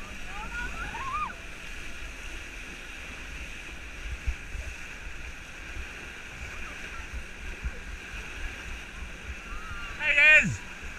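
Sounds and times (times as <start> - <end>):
water rushing and splashing: 0.0 - 10.9.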